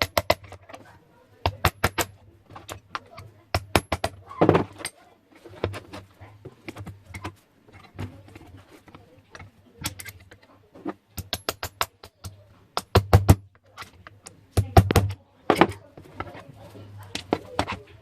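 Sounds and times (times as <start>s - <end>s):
small objects clicking and knocking: 0.0s - 18.0s.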